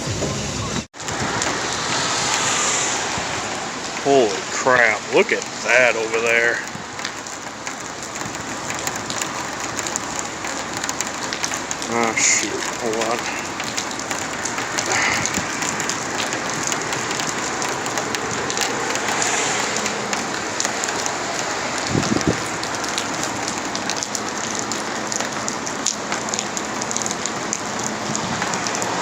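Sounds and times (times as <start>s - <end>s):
heavy rain on a car: 0.6s - 29.0s.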